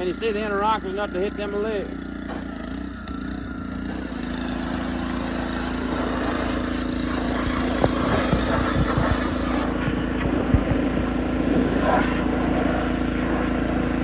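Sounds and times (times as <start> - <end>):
engine running: 0.0 - 14.0
steady hum: 0.0 - 14.0.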